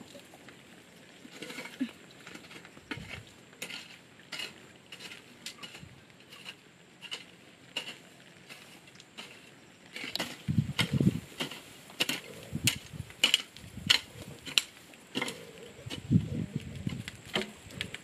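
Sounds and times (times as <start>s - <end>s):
garden tool scraping dry soil: 1.1s - 18.0s.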